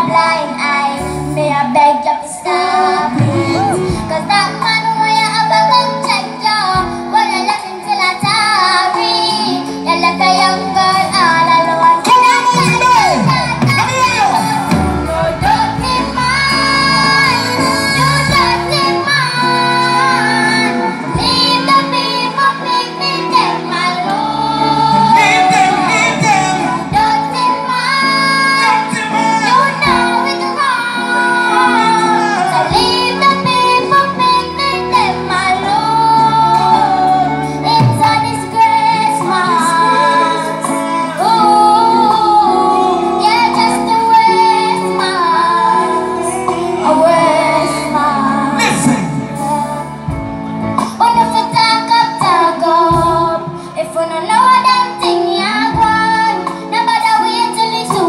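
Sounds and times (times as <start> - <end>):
girl singing into a microphone: 0.0 - 58.0
instrumental accompaniment: 0.0 - 58.0.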